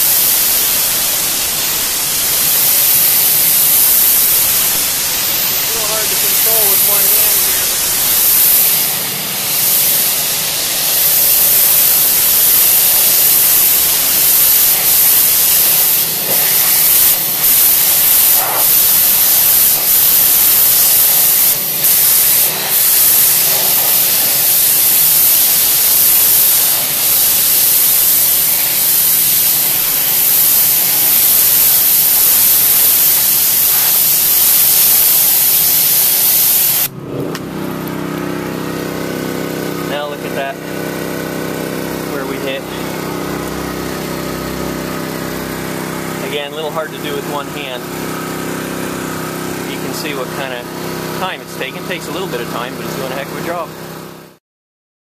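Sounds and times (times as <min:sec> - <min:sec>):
pressure washer spraying: 0:00.0 - 0:53.7
machine humming: 0:00.0 - 0:53.8.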